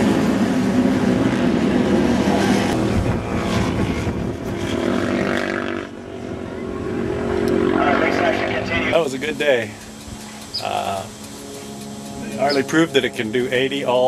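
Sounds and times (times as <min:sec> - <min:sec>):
racing motorcycles passing: 0:00.0 - 0:14.0.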